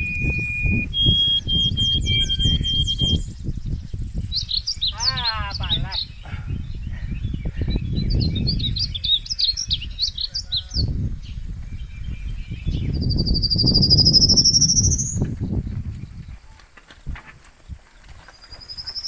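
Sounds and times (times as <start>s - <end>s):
birds chirping: 0.0s - 16.8s, 17.5s - 19.0s.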